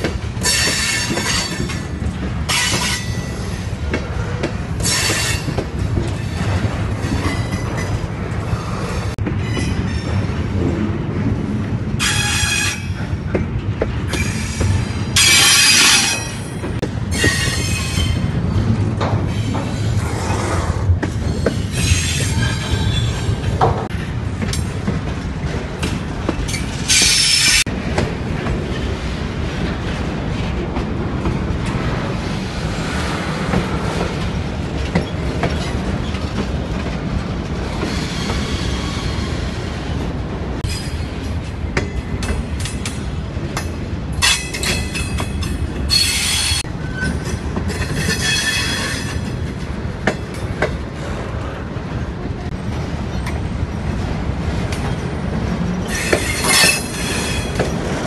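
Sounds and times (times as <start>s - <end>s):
freight train cars rumbling: 0.0s - 58.0s.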